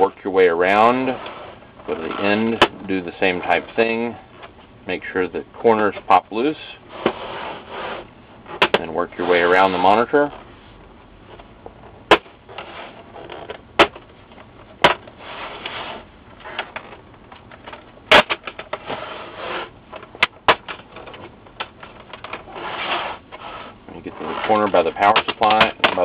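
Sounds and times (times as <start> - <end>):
plastic scraping and rubbing: 0.0 - 4.6, 6.8 - 26.0.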